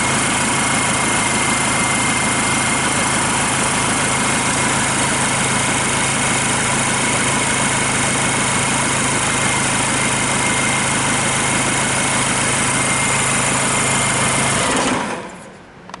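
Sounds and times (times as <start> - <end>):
diesel engine idling: 0.0 - 15.3.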